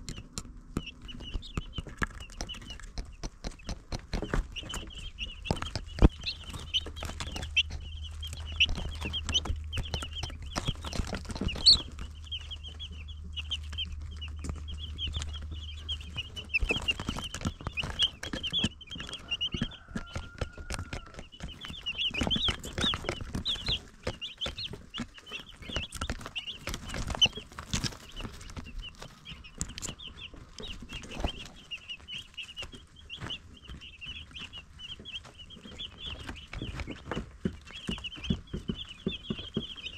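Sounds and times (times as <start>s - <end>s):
baby chicks peeping: 0.0s - 39.9s
low steady hum: 0.0s - 39.9s
taps and knocks: 0.0s - 39.9s.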